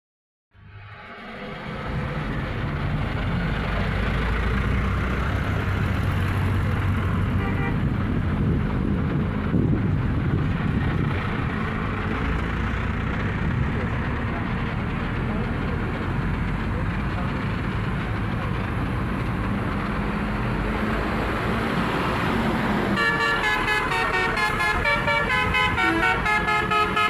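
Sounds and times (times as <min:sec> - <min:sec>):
road noise: 0:00.5 - 0:27.0
buses passing with engines rumbling: 0:00.6 - 0:27.0.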